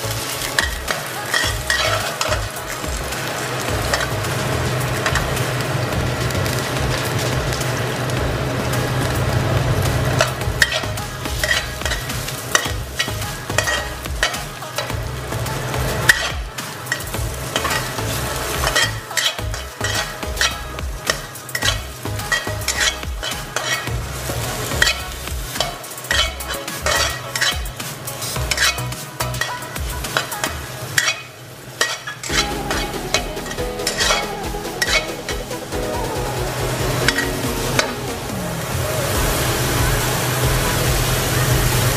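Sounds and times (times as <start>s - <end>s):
metal spatula scraping wok: 0.0s - 38.8s
light frying sizzle: 0.0s - 41.9s.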